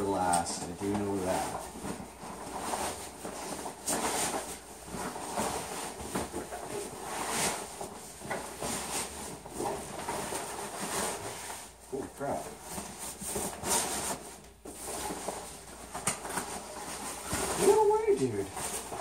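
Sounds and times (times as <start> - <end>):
fabric backpack rustling: 0.0 - 19.0.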